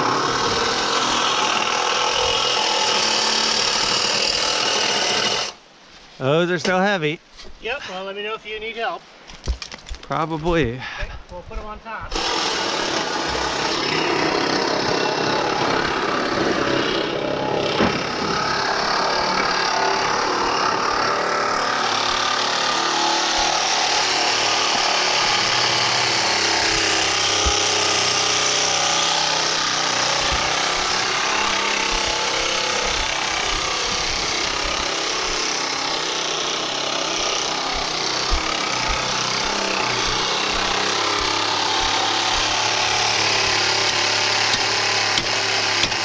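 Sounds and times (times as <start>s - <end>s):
reciprocating saw cutting steel: 0.0s - 5.6s, 12.1s - 46.0s.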